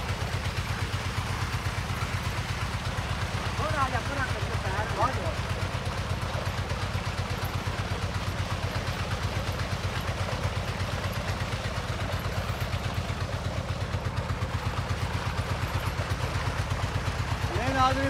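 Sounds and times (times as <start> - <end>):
pump engine thumping: 0.0 - 18.0
water gushing from pipe: 0.0 - 18.0.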